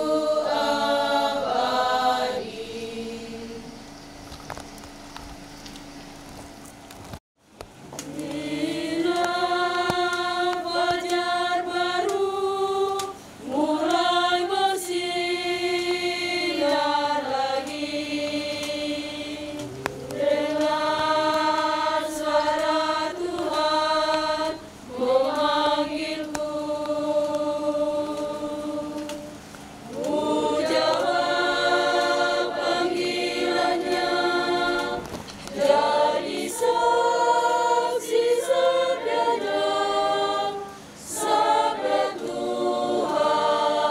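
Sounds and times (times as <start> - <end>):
women's choir singing: 0.0 - 4.0, 8.0 - 43.9.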